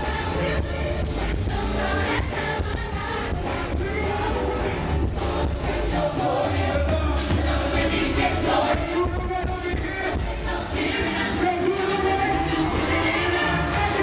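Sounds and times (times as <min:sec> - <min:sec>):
live band music over pa: 0:00.0 - 0:14.0.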